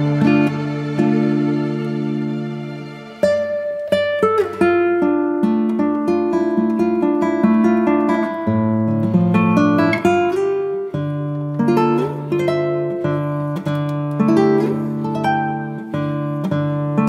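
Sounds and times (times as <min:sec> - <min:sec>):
acoustic guitar piece: 0:00.0 - 0:17.0.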